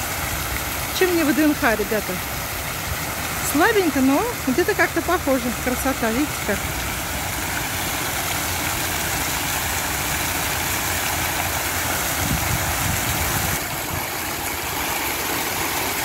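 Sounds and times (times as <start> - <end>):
fountain splashing: 0.0 - 16.0.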